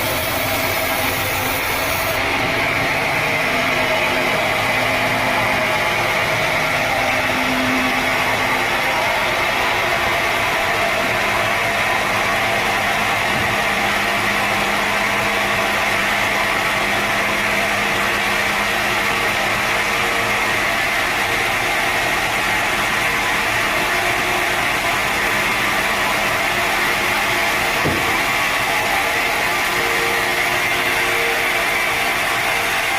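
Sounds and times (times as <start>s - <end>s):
saw running with loud hiss: 0.0s - 32.9s.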